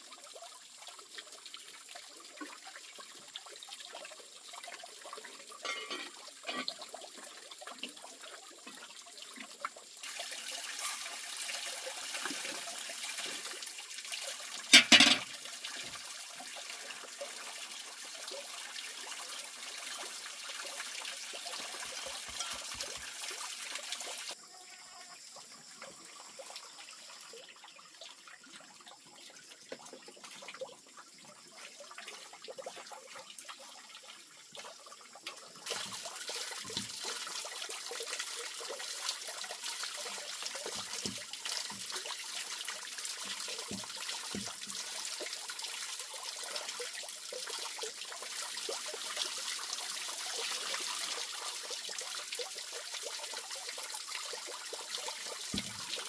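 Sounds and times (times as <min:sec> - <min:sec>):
water running and trickling: 0:00.0 - 0:56.0.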